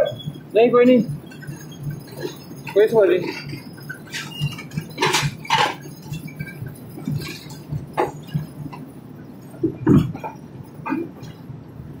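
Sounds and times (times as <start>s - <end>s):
metallic clinks and knocks: 0.0s - 11.5s
low steady hum: 0.0s - 12.0s.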